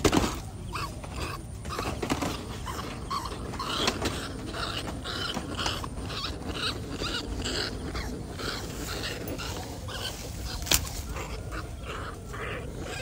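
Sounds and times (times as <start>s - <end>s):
rat squealing: 0.3s - 13.0s.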